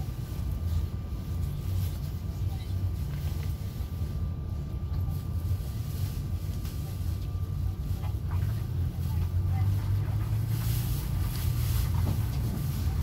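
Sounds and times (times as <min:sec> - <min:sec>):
trolleybus interior hum: 0:00.0 - 0:13.0.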